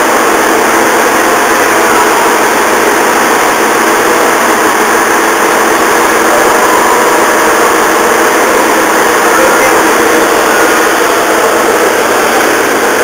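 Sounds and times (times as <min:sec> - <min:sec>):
diesel engine idling drone: 0:00.0 - 0:13.0.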